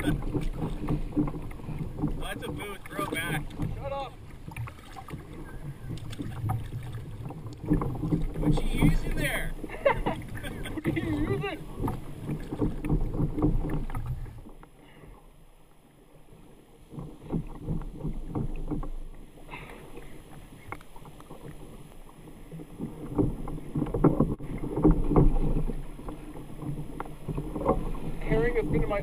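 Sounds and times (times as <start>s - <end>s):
water lapping against kayak hull: 0.0s - 29.0s.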